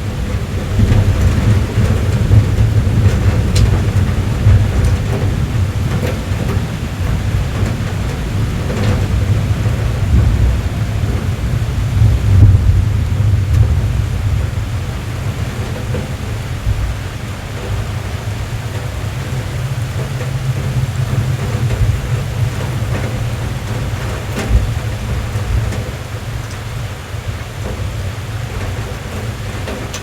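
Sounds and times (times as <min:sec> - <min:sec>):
low thunder rumble: 0:00.0 - 0:30.0
rain drumming on car roof: 0:00.0 - 0:30.0.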